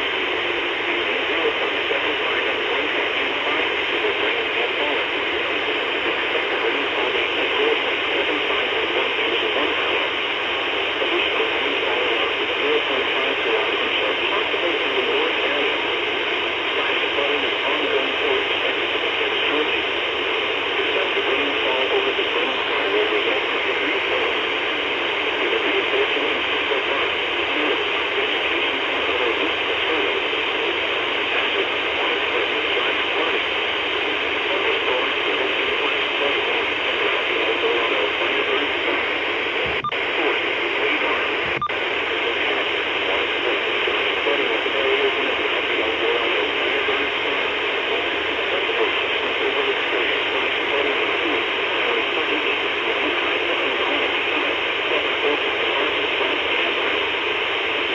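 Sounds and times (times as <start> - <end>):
radio static hiss: 0.0 - 57.9.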